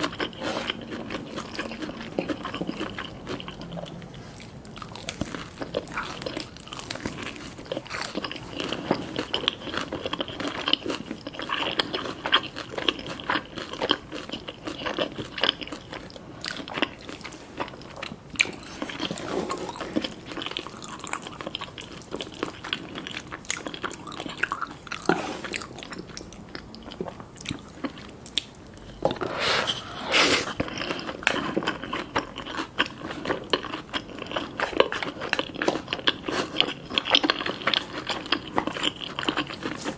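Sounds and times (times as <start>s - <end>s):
crunchy chewing of fried chicken: 0.0s - 39.9s.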